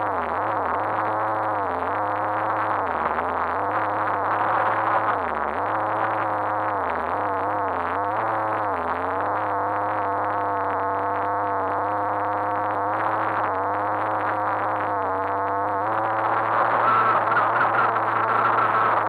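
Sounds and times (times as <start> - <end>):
muffled toy car motor: 0.0 - 19.0.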